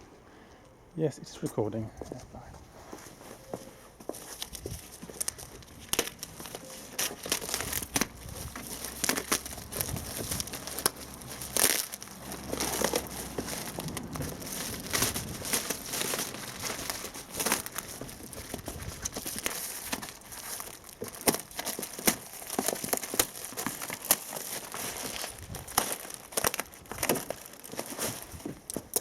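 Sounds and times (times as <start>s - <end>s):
packaging crinkling and rustling: 3.2s - 29.0s
packaging tearing: 4.2s - 29.0s.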